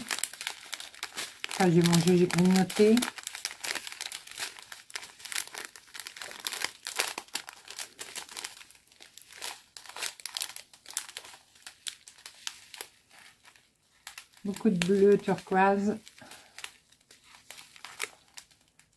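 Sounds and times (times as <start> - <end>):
plastic bags crinkling: 0.0 - 18.9.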